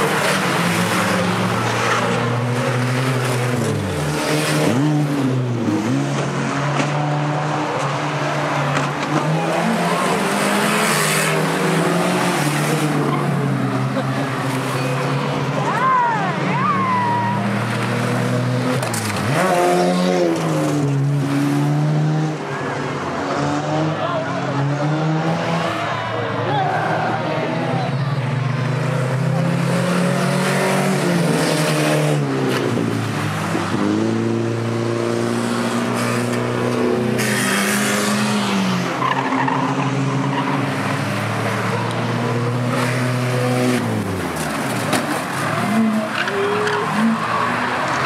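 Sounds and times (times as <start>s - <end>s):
racing car engines revving: 0.0s - 48.0s.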